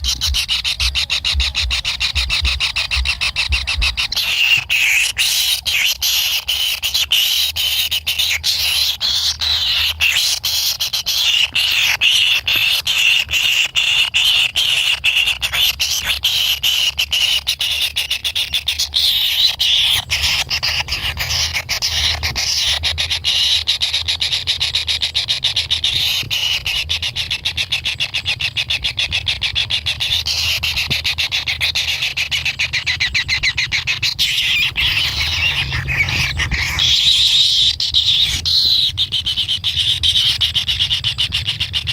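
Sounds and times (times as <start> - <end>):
chicks begging calls: 0.0 - 41.9.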